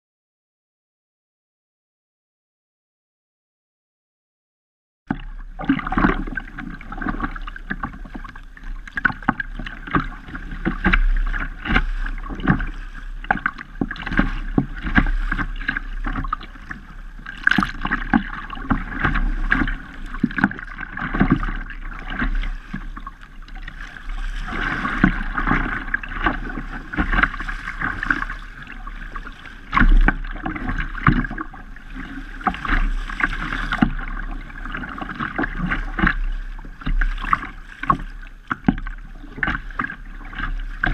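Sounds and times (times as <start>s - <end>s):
paddle splashing: 5.1s - 40.9s
waves slapping against a hull: 5.1s - 40.9s.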